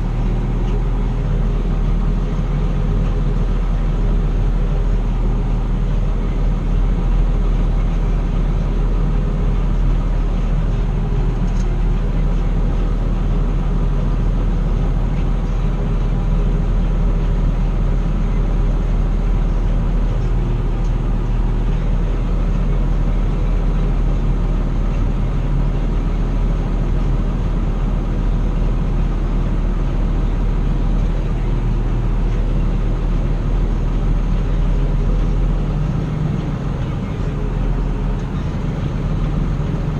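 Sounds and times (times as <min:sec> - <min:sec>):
farm machine engine droning: 0:00.0 - 0:39.9.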